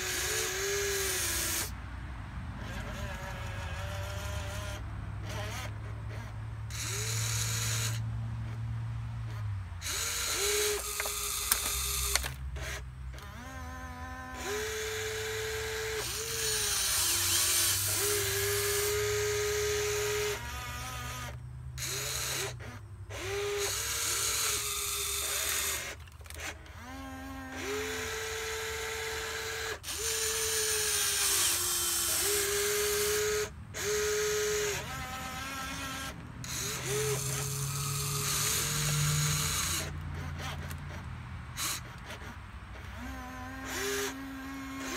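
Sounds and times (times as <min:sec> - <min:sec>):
toy excavator motors whining: 0:00.0 - 0:44.9.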